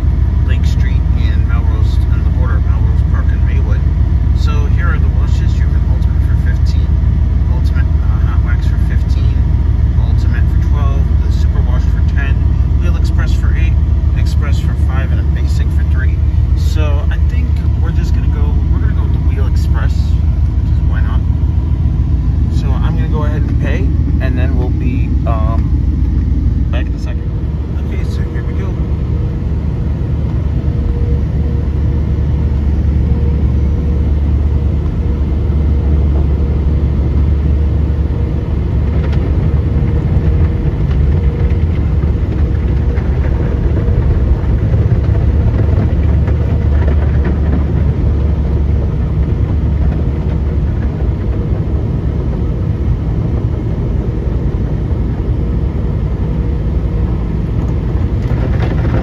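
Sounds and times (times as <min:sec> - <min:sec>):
car wash brushes rumbling: 0:09.5 - 0:59.0.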